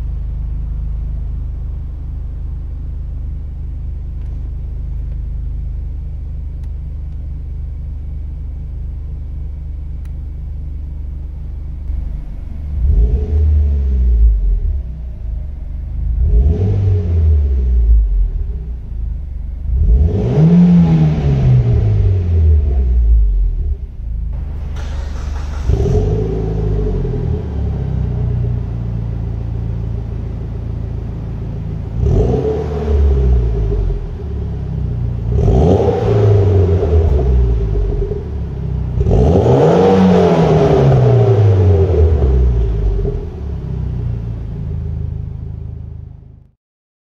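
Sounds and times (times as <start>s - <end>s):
car engine idling and revving: 0.0s - 46.5s.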